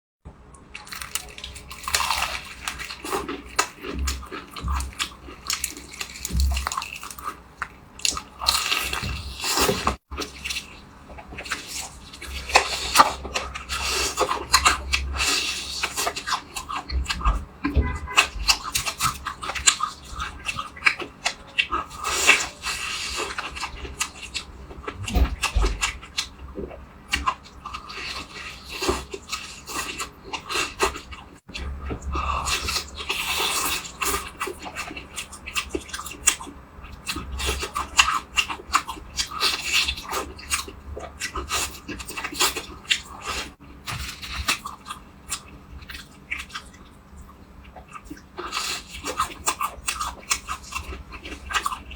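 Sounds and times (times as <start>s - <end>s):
food chewing and crunching: 0.6s - 51.9s.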